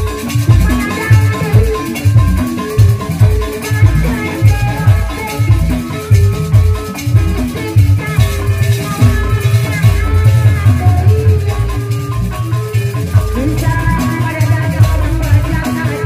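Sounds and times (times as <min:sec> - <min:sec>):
gamelan melody: 0:00.0 - 0:16.0.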